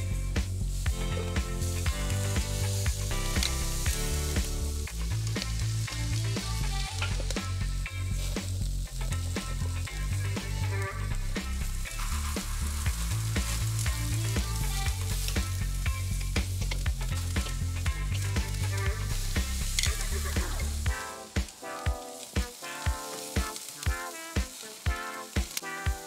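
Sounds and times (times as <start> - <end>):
background music with bass line: 0.0 - 26.0
meat sizzling on a grill: 0.0 - 26.0.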